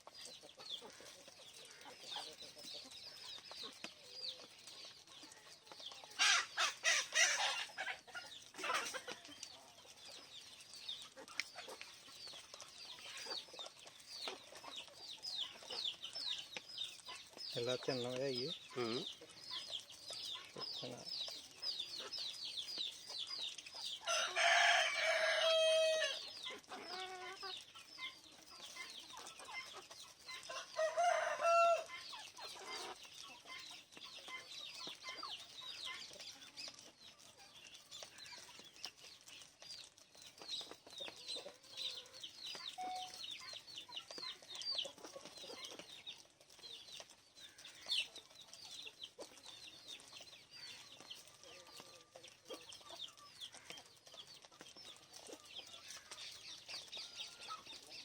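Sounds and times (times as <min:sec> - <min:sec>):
small birds twittering: 0:00.0 - 0:58.0.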